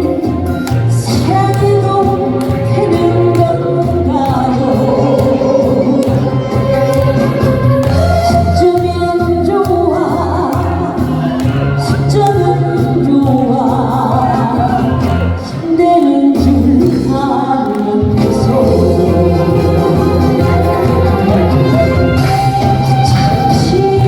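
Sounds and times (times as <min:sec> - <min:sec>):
backing track with bass line: 0:00.0 - 0:24.0
woman singing: 0:00.0 - 0:24.0.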